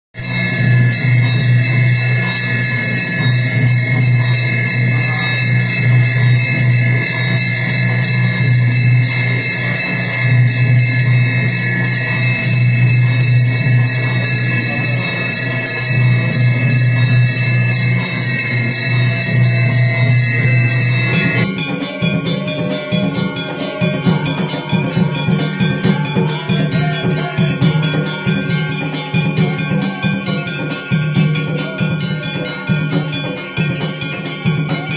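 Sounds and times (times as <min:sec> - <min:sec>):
bells and jingles ringing: 0:00.2 - 0:34.9.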